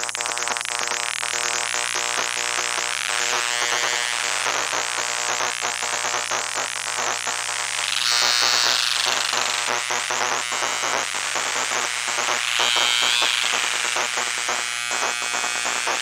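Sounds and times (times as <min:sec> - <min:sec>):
electronic noise drone: 0:00.1 - 0:16.0.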